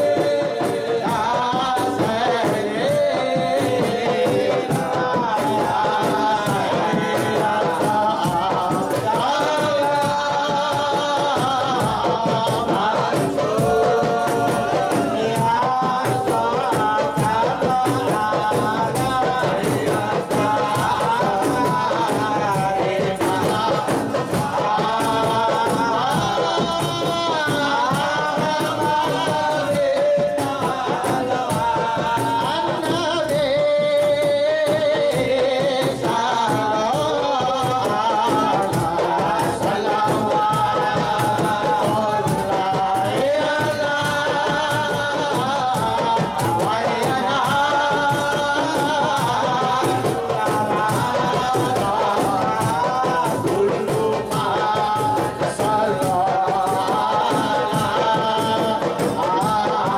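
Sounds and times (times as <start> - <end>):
frame drums beating: 0.0 - 59.9
men chanting together: 0.0 - 59.9.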